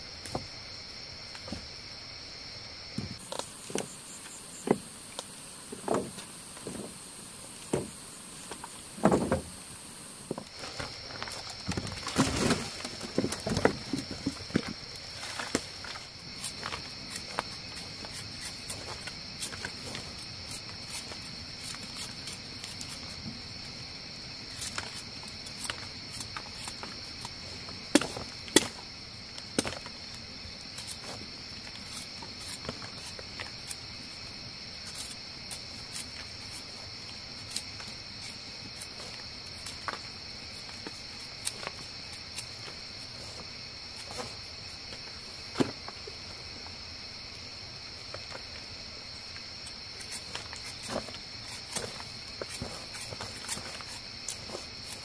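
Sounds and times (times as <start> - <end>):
insect chorus droning: 0.0 - 55.0.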